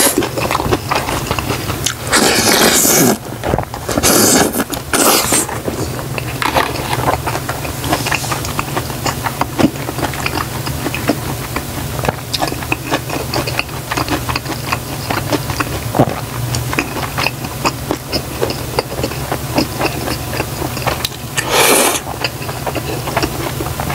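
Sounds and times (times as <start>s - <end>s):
noodles chewing: 0.0s - 23.9s.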